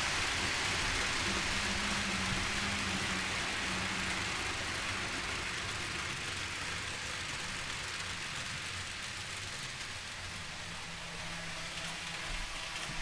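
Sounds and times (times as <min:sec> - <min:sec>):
small wheels rushing on rail: 0:00.0 - 0:13.0.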